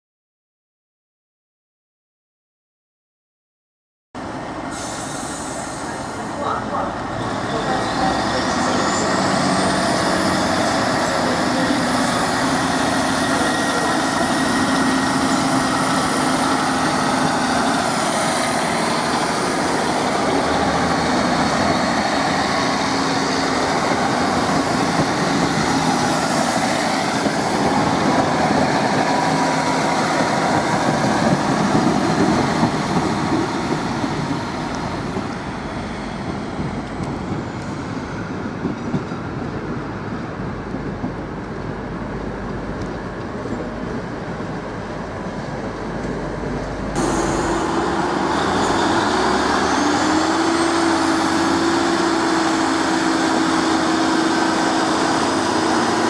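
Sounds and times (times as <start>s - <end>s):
diesel train engines running: 4.2s - 56.0s.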